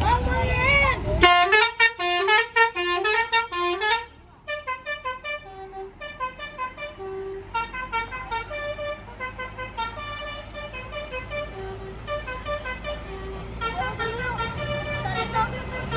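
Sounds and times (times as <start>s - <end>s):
low engine rumble: 0.0s - 15.9s.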